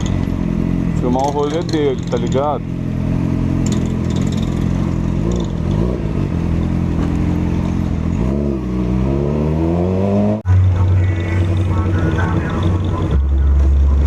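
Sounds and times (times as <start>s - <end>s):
loud low hum: 0.0s - 14.0s
vehicle engine revving: 0.0s - 14.0s.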